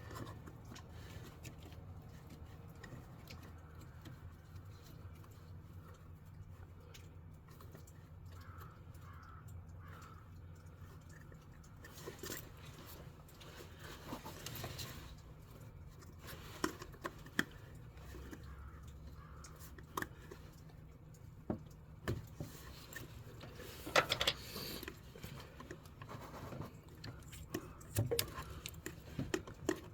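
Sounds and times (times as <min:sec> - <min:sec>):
small tools tapping on fittings: 0:00.0 - 0:29.9.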